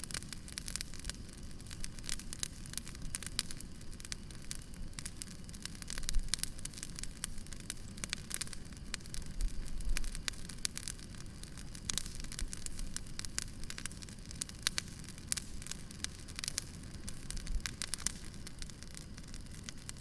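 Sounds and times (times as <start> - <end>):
bonfire crackling and popping: 0.0 - 20.0
low steady fire rumble: 0.0 - 20.0.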